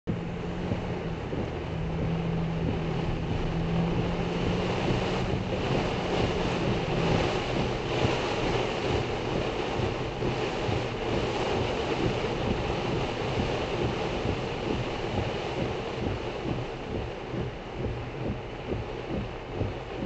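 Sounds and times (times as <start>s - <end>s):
tyre noise on wet road: 0.1s - 17.8s
gusting wind: 0.1s - 20.0s
heavy rain on car: 0.1s - 20.0s
low steady hum: 0.1s - 20.0s.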